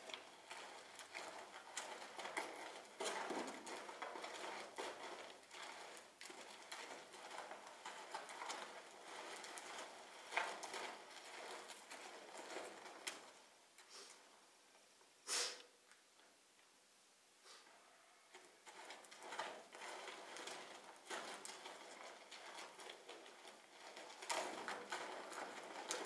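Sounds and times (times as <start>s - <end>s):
horse hooves in sand: 0.0s - 14.4s, 18.3s - 26.0s.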